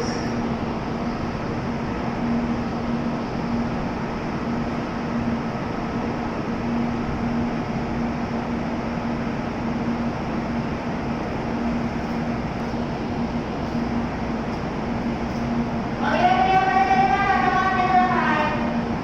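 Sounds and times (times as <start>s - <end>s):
stationary train humming: 0.0s - 19.0s.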